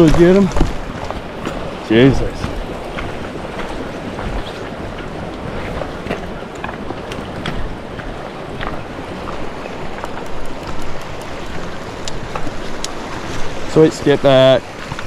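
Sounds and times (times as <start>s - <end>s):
river current rushing: 0.0s - 15.0s
water splashes: 0.0s - 15.0s
wind on microphone: 0.0s - 15.0s.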